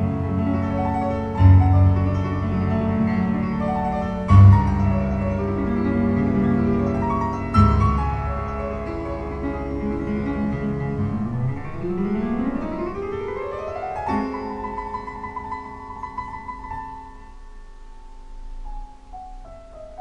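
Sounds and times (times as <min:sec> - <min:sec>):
solo piano over loudspeakers: 0:00.0 - 0:20.0.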